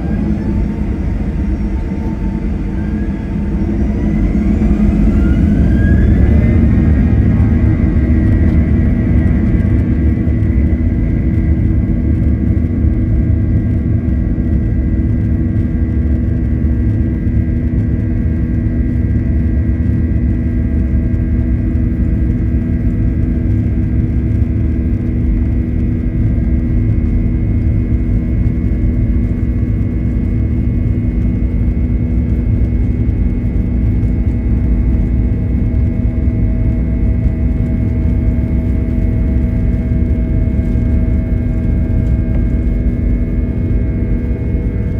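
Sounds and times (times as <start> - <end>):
airplane cabin rumble: 0.0 - 44.9
jet engine whine: 0.0 - 44.9.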